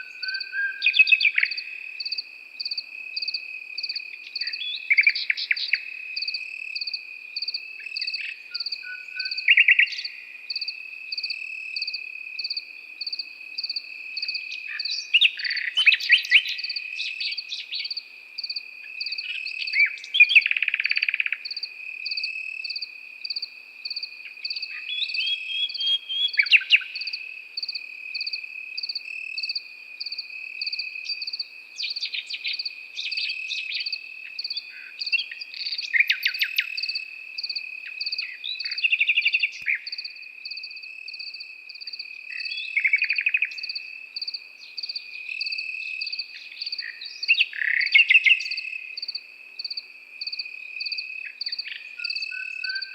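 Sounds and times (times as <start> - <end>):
crickets trilling: 0.0 - 52.9
nightingale singing: 0.0 - 52.9.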